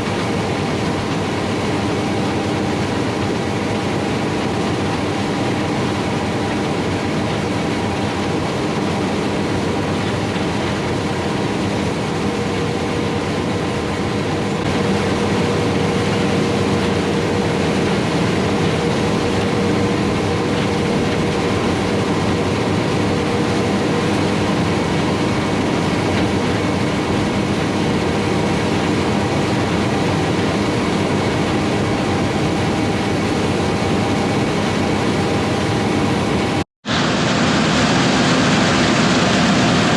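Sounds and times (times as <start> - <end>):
harvest machinery engine hum: 0.0 - 39.9.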